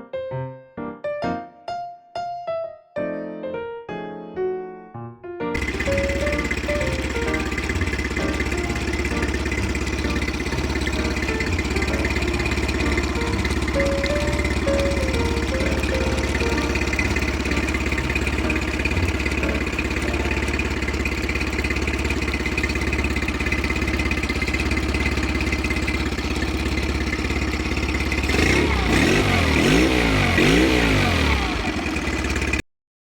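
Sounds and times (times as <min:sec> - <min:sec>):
outboard motor running and revving: 0:05.6 - 0:32.6.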